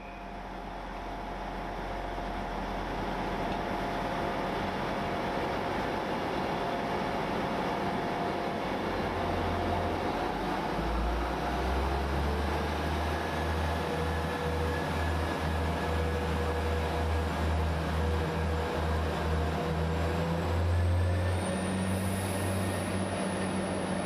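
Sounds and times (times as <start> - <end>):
diesel train engine throbbing: 0.0 - 24.0.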